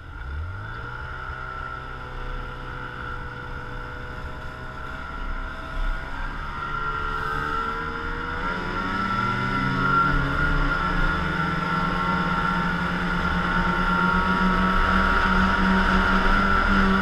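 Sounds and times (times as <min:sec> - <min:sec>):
snowmobile engine running: 0:00.0 - 0:17.0
steady high whine: 0:00.0 - 0:17.0.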